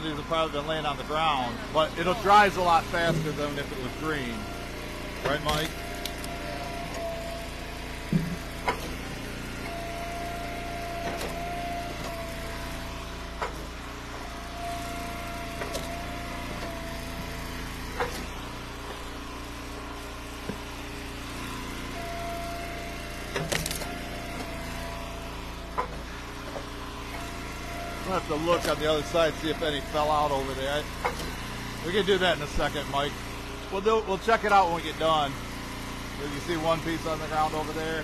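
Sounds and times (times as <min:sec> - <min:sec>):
splitter whine: 0:00.0 - 0:38.0
wood splitter engine running: 0:00.0 - 0:38.0.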